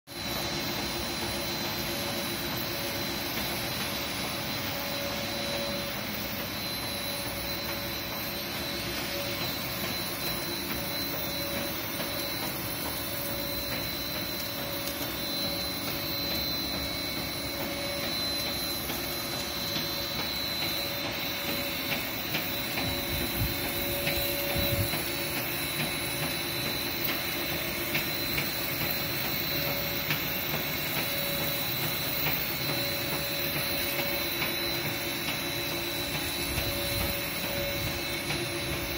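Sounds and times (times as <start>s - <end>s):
high whine: 0.1s - 38.9s
lathe machine noise: 0.1s - 38.9s.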